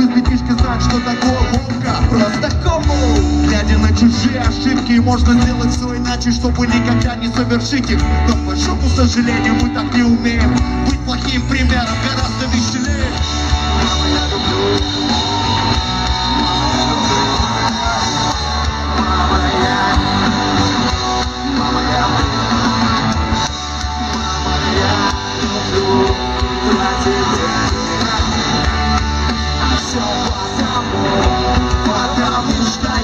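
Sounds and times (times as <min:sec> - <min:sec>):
live rock music with guitar: 0:00.0 - 0:33.0.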